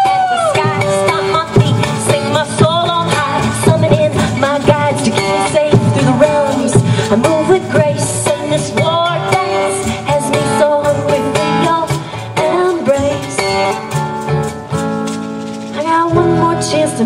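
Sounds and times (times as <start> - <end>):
woman singing: 0.0 - 14.0, 15.8 - 17.0
acoustic guitar: 0.0 - 17.0
hand shaker: 0.0 - 17.0.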